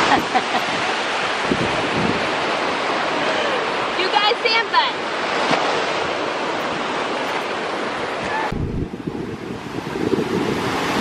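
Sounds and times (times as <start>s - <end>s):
wind buffeting microphone: 0.0s - 4.1s, 5.2s - 11.0s
ocean surf washing: 0.0s - 11.0s.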